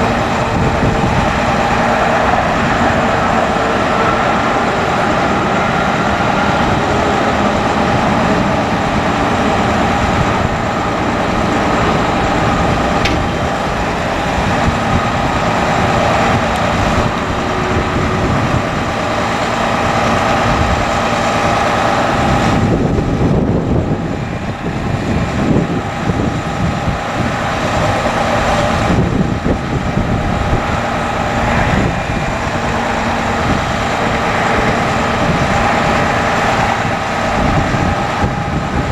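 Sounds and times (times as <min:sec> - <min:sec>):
high whine: 0:00.0 - 0:38.9
truck diesel engine running: 0:00.0 - 0:38.9.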